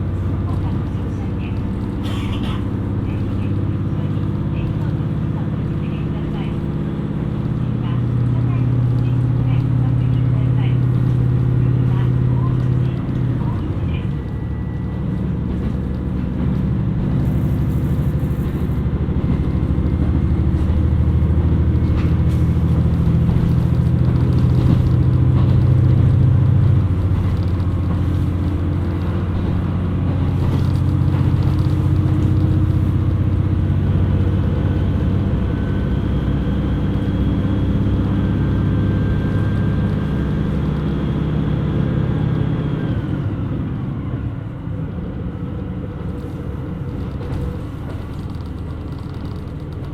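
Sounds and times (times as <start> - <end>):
diesel railcar engine droning: 0.0 - 49.9.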